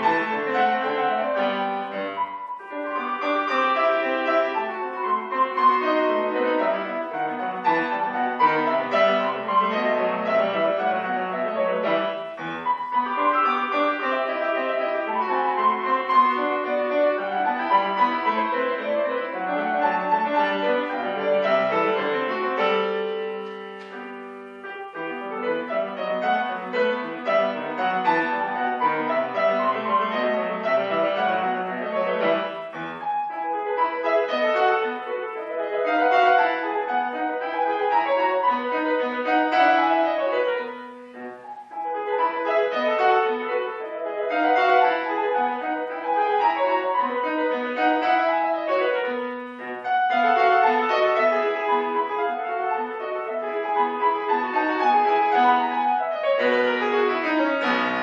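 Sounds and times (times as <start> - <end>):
classical piano piece: 0.0 - 58.0.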